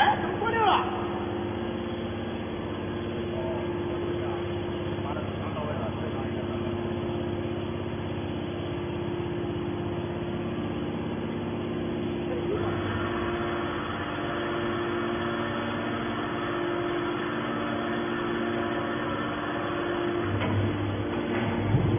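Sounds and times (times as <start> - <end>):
hydraulic power unit humming: 0.0 - 21.9.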